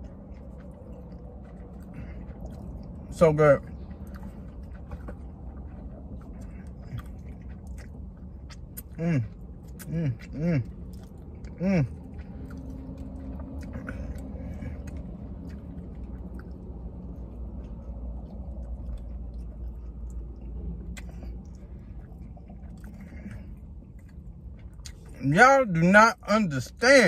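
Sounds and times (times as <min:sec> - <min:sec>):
low hum: 0:00.0 - 0:25.2
man chewing food: 0:00.0 - 0:25.9.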